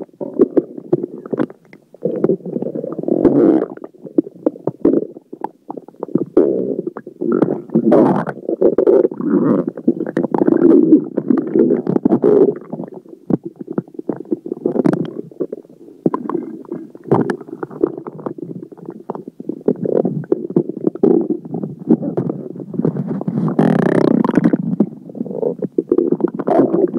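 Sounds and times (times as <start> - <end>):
stomach gurgling and rumbling: 0.0 - 26.9.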